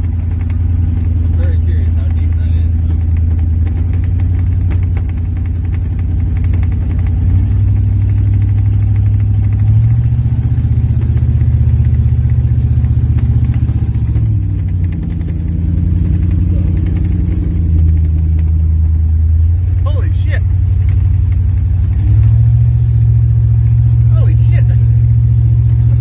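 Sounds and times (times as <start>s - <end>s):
pickup truck engine under load: 0.0s - 26.0s.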